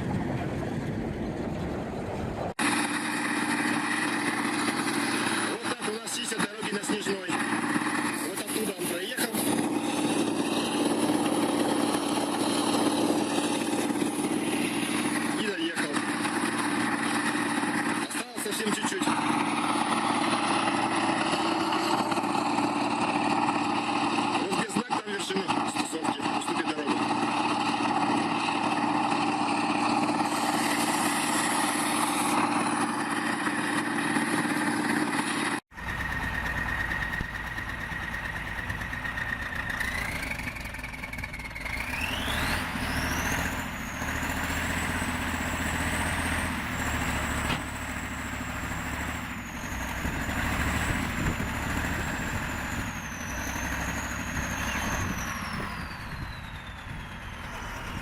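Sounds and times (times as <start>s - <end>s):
high engine whine: 0.0s - 58.0s
vehicle engines running: 0.0s - 58.0s.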